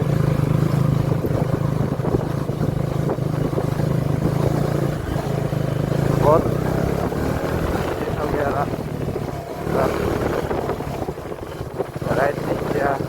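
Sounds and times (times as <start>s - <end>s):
motorcycle engine running steadily: 0.0s - 13.0s.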